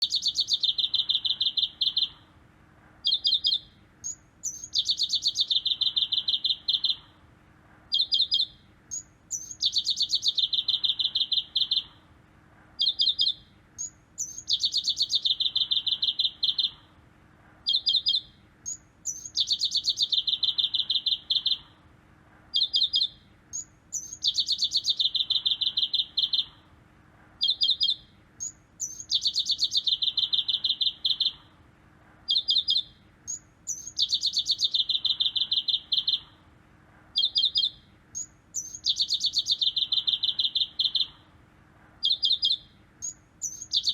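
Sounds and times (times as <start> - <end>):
songbird trilling: 0.0 - 2.2, 3.0 - 7.1, 7.9 - 12.0, 12.8 - 16.9, 17.6 - 21.7, 22.5 - 26.6, 27.4 - 31.5, 32.3 - 36.4, 37.2 - 41.2, 42.0 - 43.9.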